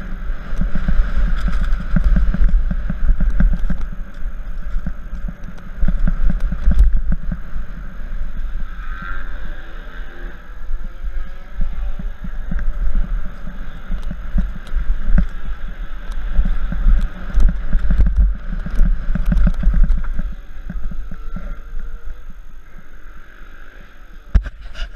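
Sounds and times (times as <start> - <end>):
wind buffeting microphone: 0.0 - 9.4, 10.5 - 23.0
bike rattling over bumps: 0.0 - 24.9.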